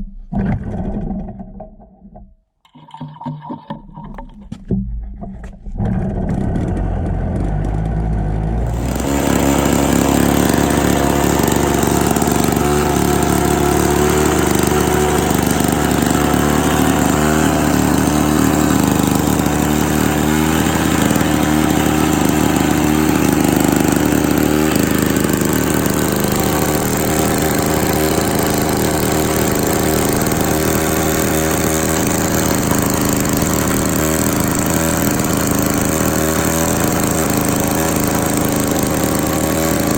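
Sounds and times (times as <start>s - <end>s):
lawn mower engine running: 2.7s - 39.9s.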